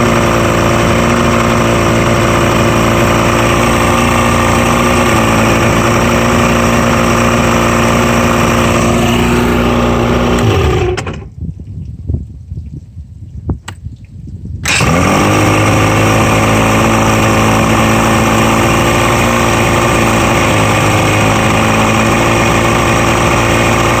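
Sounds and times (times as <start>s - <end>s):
outboard motor running: 0.0s - 11.3s, 14.6s - 24.0s.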